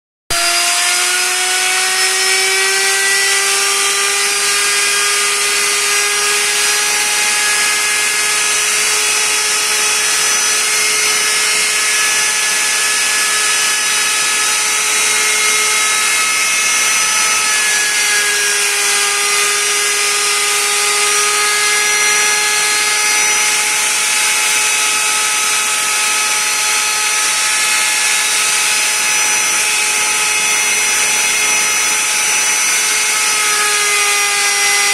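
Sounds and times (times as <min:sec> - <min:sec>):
power saw cutting wood: 0:00.3 - 0:34.9.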